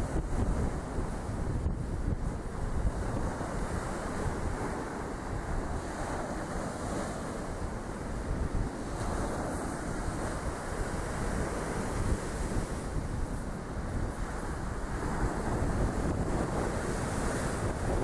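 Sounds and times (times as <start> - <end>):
wind buffeting microphone: 0.0 - 18.0
waves breaking on shingle beach: 2.5 - 18.0.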